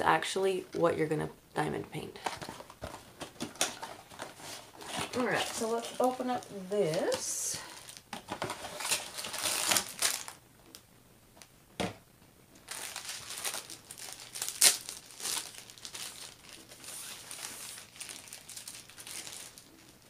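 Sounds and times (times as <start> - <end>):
plastic packaging crinkling: 2.2 - 10.8, 12.6 - 20.0.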